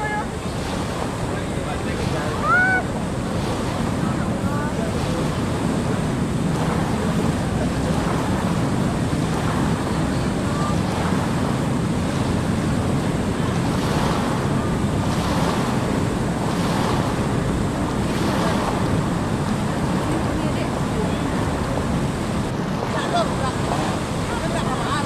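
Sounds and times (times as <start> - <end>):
floodwater rushing: 0.0 - 25.0
wind buffeting microphone: 0.0 - 25.0.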